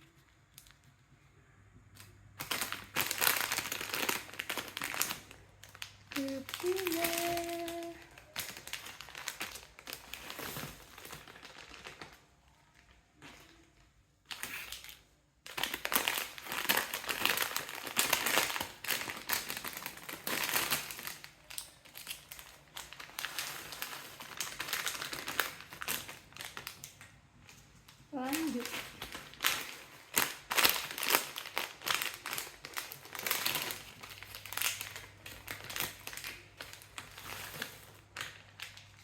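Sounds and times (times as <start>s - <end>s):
plastic snack packets crinkling: 1.9s - 39.0s.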